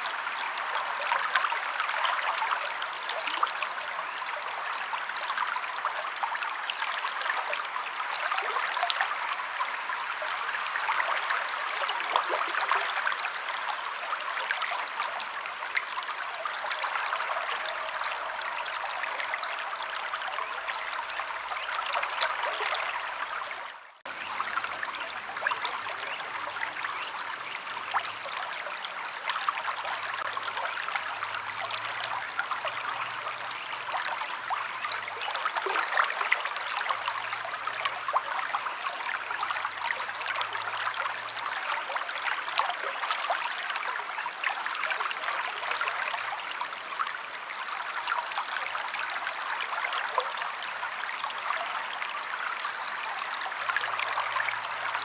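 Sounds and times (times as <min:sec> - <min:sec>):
flowing river: 0:00.0 - 0:55.0.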